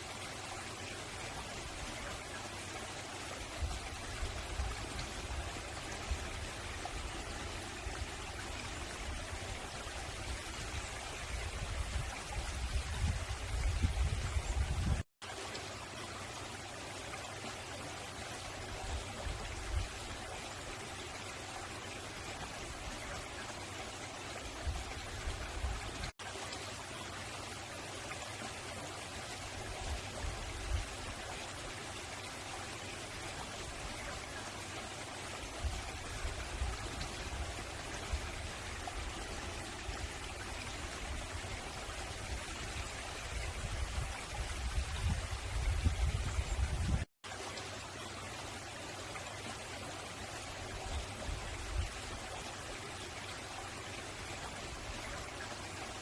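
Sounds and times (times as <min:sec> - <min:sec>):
water rushing over rocks: 0:00.0 - 0:56.0.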